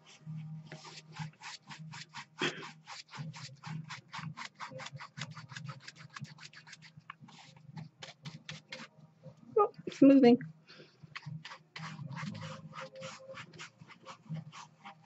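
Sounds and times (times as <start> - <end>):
paintbrush scratching canvas: 0.0 - 8.9, 11.1 - 15.0.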